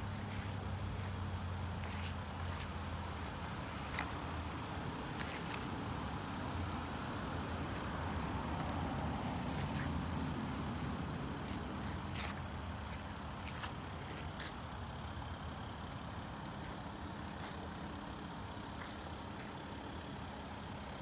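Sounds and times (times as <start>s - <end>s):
van engine idling: 0.0s - 21.0s.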